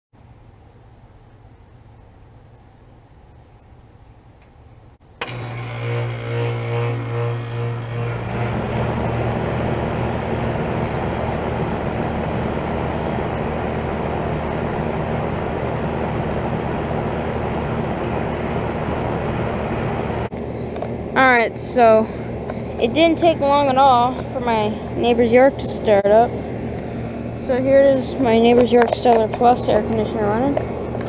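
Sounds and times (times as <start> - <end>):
condenser fan airflow noise: 0.2 - 31.0
compressor humming: 4.4 - 31.0.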